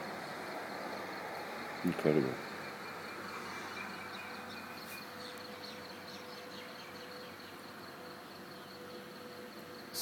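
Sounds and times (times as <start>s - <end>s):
small birds chirping: 0.0s - 10.0s
steady high-pitched buzz: 0.0s - 10.0s.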